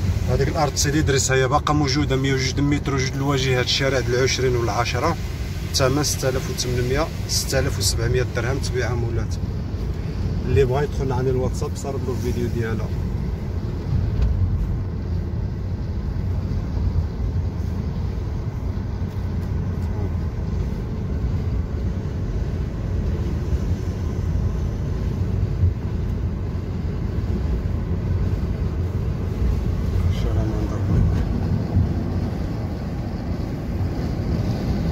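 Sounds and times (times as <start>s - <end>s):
car engine and tyre noise: 0.0s - 34.9s.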